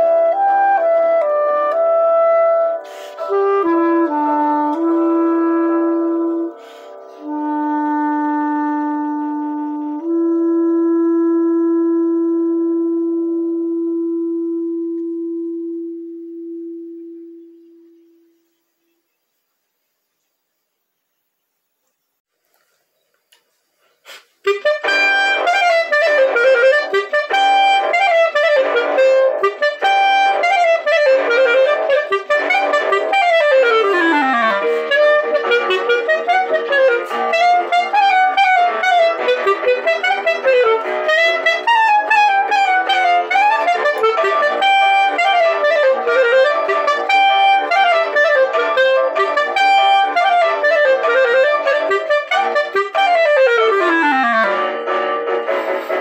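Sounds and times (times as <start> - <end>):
clarinet playing fast melody: 0.0 - 18.3, 24.4 - 56.0.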